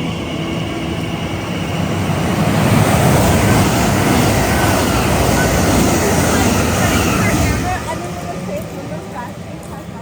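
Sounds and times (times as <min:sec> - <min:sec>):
train passing with roar: 0:00.0 - 0:10.0.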